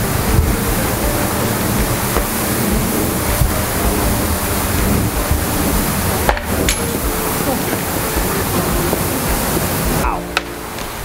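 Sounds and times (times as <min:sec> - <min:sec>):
water mister hissing: 0:00.0 - 0:11.0.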